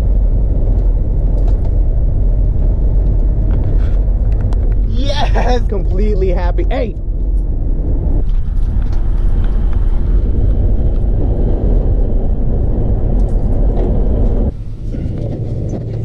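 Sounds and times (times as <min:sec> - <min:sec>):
van road noise rumble: 0:00.0 - 0:16.0.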